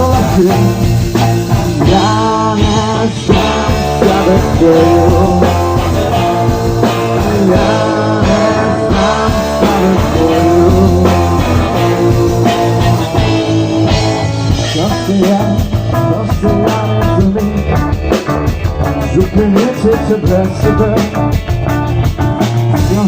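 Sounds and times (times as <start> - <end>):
person singing: 0.0 - 21.5
rock band playing: 0.0 - 23.0.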